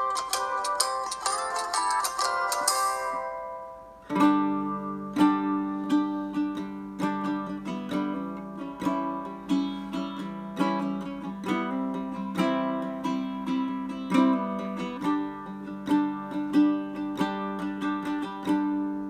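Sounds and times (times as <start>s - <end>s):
baritone ukulele playing: 0.0s - 19.0s.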